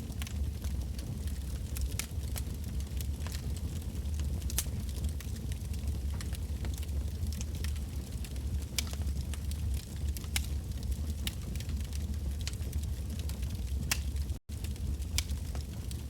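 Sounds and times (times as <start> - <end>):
low rumble of flames: 0.0 - 16.0
campfire crackling and popping: 0.1 - 16.0.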